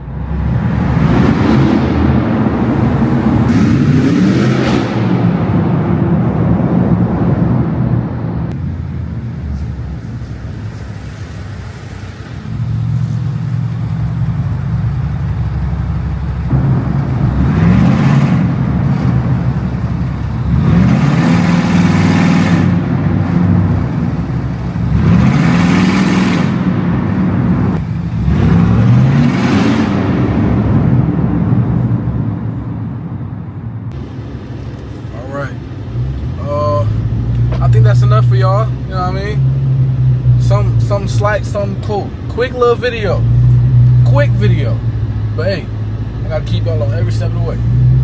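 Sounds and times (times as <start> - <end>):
loud car engine revving: 0.0 - 10.2, 10.8 - 48.0.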